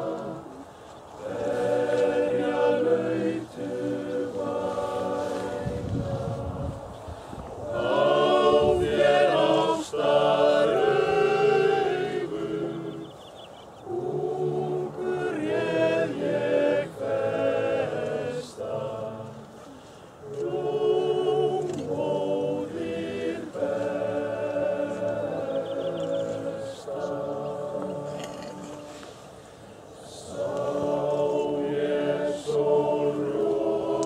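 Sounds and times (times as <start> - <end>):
men's choir singing a cappella: 0.0 - 29.2, 30.0 - 34.0.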